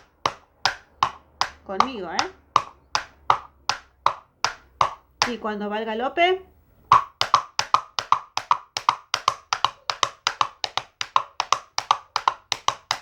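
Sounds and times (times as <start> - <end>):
plastic caps clapped together: 0.0 - 5.4, 6.9 - 13.0.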